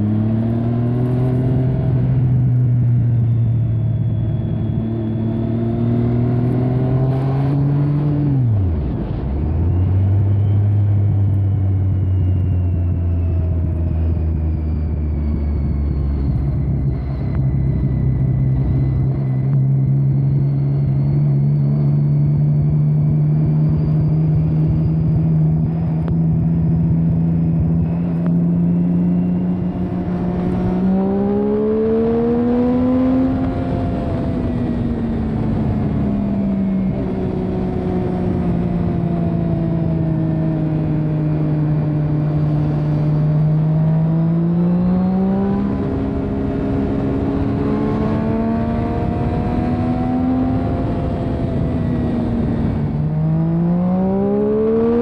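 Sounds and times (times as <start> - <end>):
muffled motorcycle engine revving: 0.0 - 55.0.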